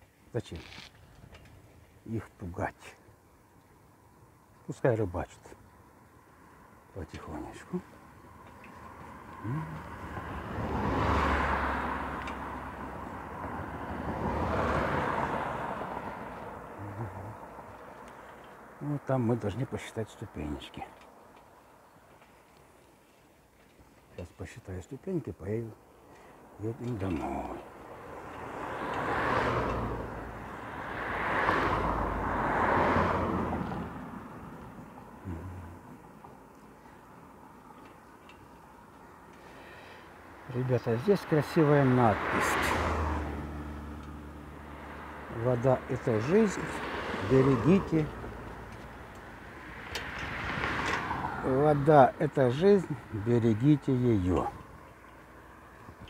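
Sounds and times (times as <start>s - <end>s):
road vehicles passing: 0.0s - 56.0s.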